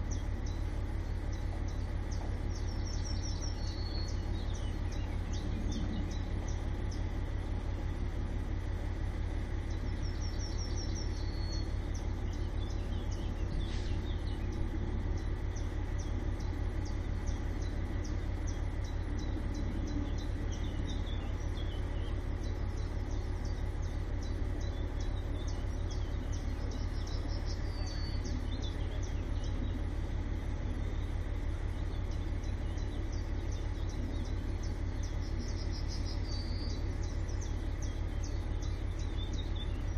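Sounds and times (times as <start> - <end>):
birds calling: 0.0 - 39.9
insects chirring: 0.0 - 39.9
low rumble: 0.0 - 39.9.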